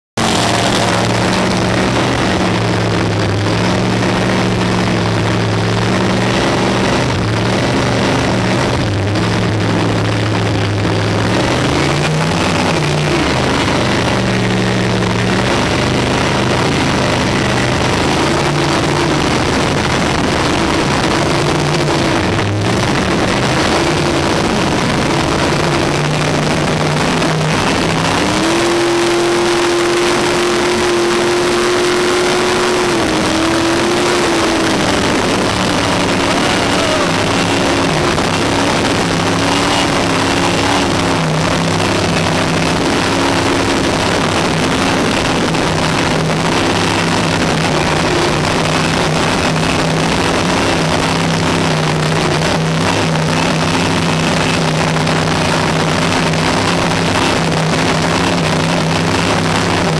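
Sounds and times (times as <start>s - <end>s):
boat engine running: 0.0s - 59.9s
water rushing: 0.2s - 59.9s.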